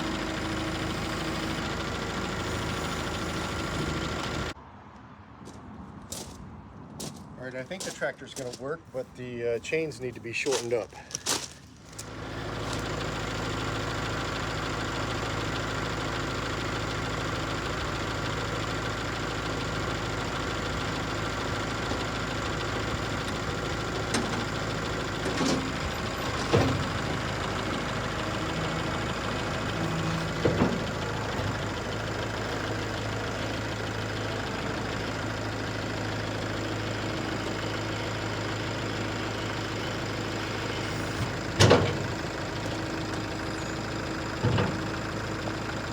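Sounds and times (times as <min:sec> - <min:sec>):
tractor engine idling: 0:00.0 - 0:04.6, 0:07.4 - 0:45.9.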